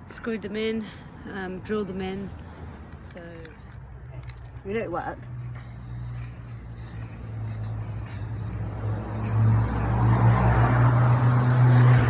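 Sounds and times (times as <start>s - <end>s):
vehicle engine humming: 1.4s - 12.0s.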